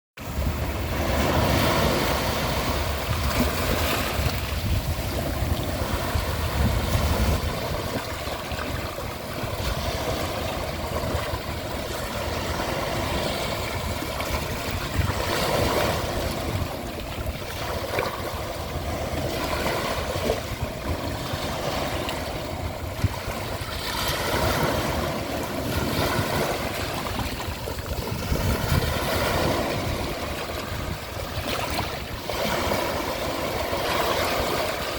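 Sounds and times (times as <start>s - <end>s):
ocean waves breaking on shore: 0.2s - 34.9s
wind rumble on microphone: 0.2s - 34.9s.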